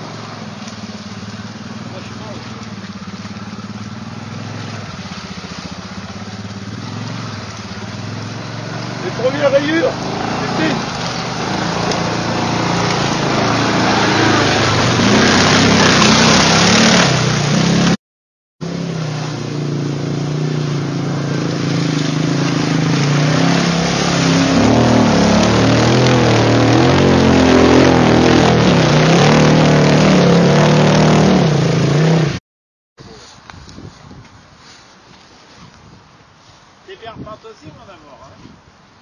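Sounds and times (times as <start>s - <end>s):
quad bike engine revving: 0.0s - 18.0s, 18.6s - 32.4s.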